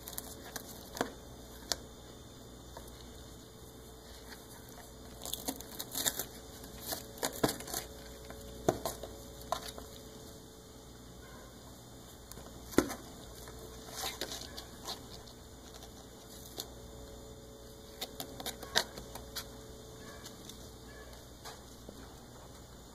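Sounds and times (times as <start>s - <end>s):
kitten chewing cardboard: 0.0s - 2.0s, 2.6s - 10.4s, 12.2s - 21.8s.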